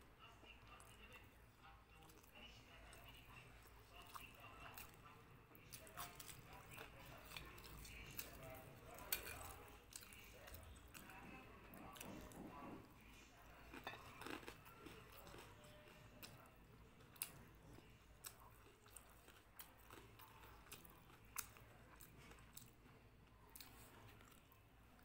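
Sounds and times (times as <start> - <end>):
person chewing food: 2.0 - 5.1, 5.7 - 25.0.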